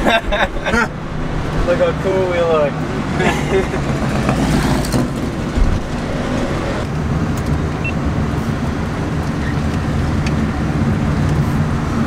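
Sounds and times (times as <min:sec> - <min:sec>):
low road rumble inside truck cab: 0:00.0 - 0:12.0.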